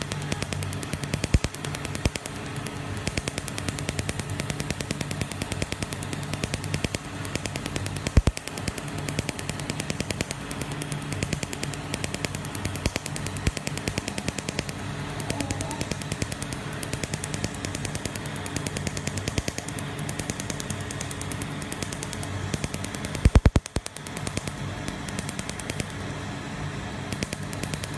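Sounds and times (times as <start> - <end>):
laser firing sharp snaps: 0.0 - 26.2, 27.1 - 27.9
low hum of laser unit: 0.0 - 27.9.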